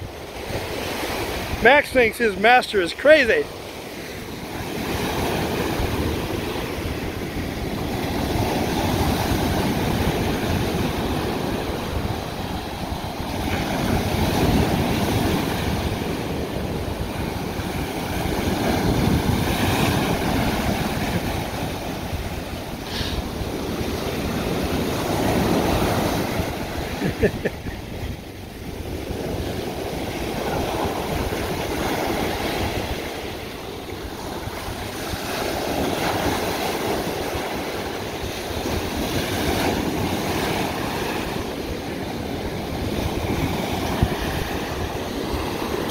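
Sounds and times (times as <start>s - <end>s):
waves breaking on beach: 0.0s - 45.9s.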